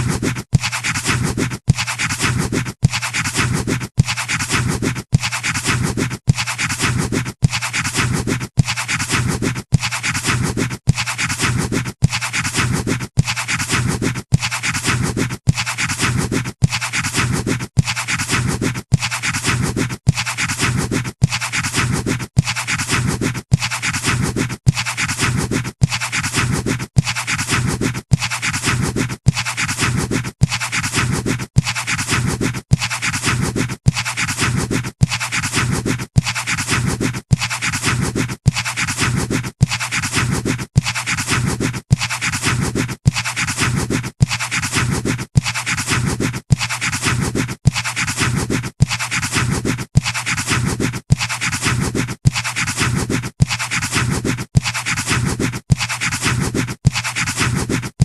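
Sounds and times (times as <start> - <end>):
pencil scratching on paper: 0.0 - 58.0.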